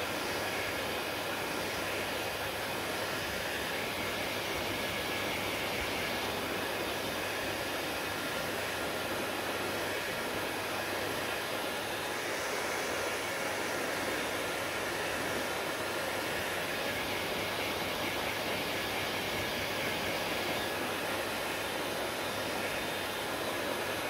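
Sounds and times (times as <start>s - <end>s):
hair dryer running: 0.0s - 24.0s.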